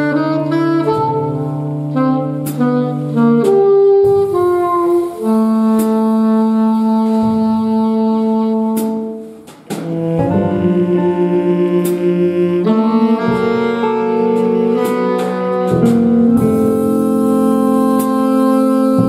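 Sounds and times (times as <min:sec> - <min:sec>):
jazz big band: 0:00.0 - 0:19.0
saxophone solo: 0:00.0 - 0:19.0.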